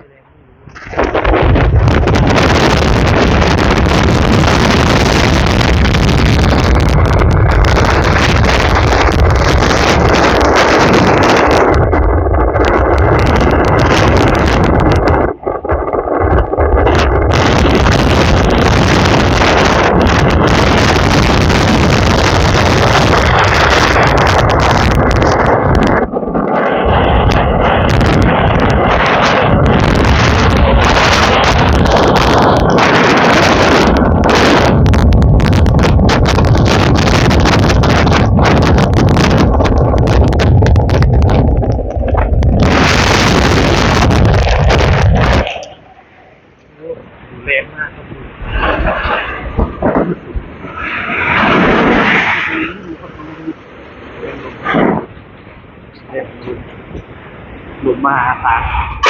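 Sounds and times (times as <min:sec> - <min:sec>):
strong wind buffeting microphone: 0:00.0 - 0:59.0.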